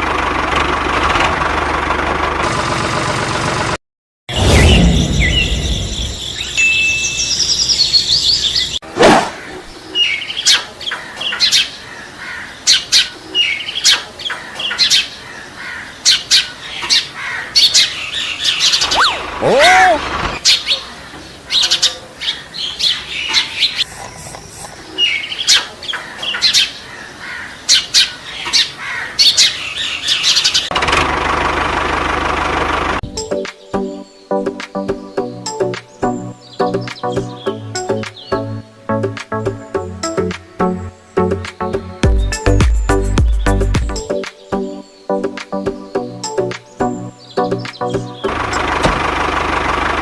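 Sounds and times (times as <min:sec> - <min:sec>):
songbirds chirping: 0:04.6 - 0:30.7, 0:31.5 - 0:50.0.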